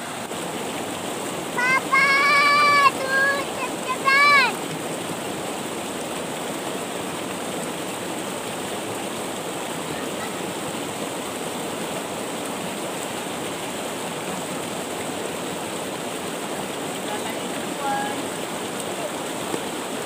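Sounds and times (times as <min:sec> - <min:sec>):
river rushing over boulders: 0:00.0 - 0:20.0.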